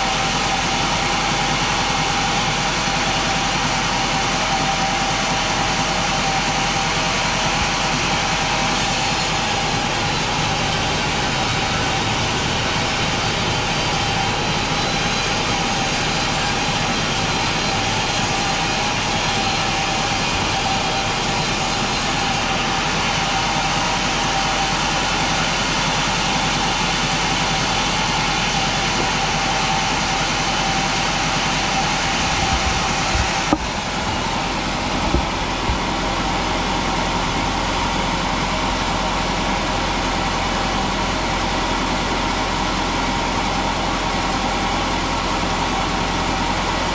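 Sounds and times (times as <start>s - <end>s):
motorized saw cutting log: 0.0s - 46.9s.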